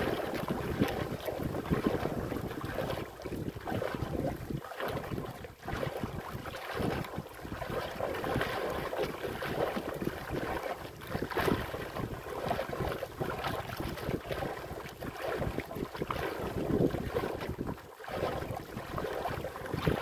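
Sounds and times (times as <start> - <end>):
waves splashing against hull: 0.0 - 20.0
wind buffeting microphone: 0.0 - 20.0.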